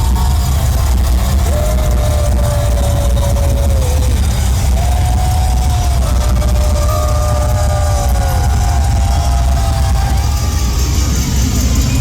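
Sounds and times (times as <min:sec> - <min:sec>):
metal band playing live: 0:00.0 - 0:12.0.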